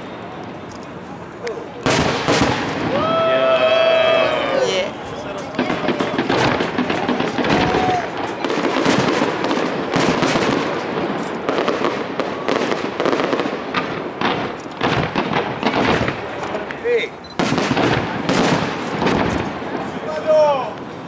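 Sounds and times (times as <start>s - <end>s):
fireworks bangs: 0.0s - 21.0s
fireworks crackle: 0.0s - 21.0s.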